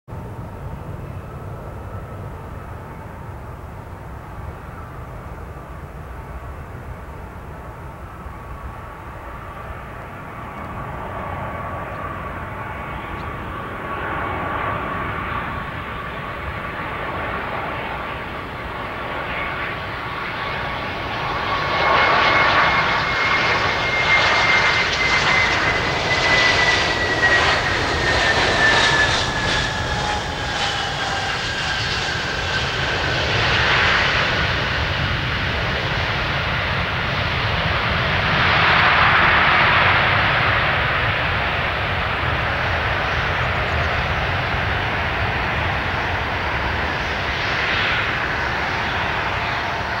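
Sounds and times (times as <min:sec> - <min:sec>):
jet engine whine: 0:00.1 - 0:50.0.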